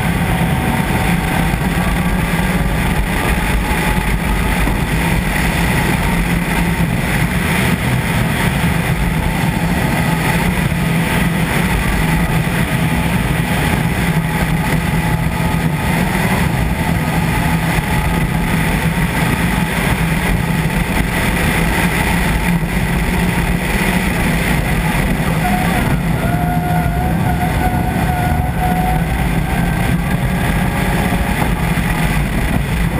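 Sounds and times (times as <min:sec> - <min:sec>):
rally car engine running: 0:00.0 - 0:32.9
road and wind noise: 0:00.0 - 0:32.9.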